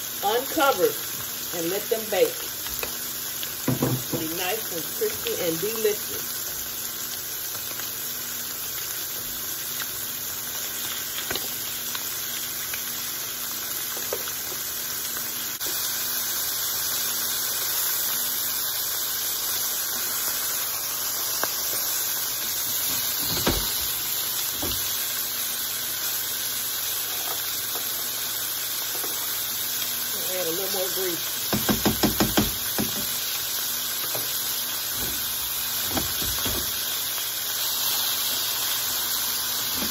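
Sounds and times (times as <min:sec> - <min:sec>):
chicken sizzling in a skillet: 0:00.0 - 0:39.9.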